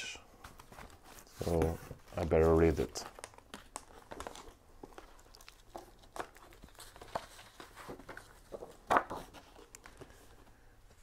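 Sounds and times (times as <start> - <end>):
paper rustling and crinkling: 0.4 - 11.0.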